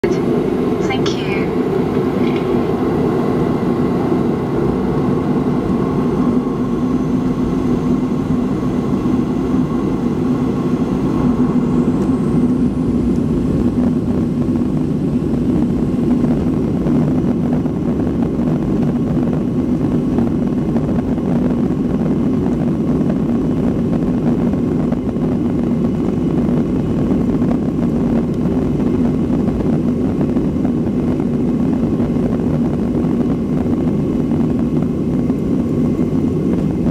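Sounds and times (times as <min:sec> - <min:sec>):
jet engine drone in cabin: 0:00.0 - 0:36.9.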